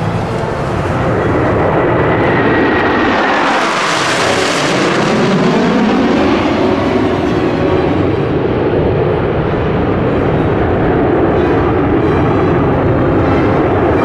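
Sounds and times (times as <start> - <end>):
jets roaring past: 0.0 - 14.0.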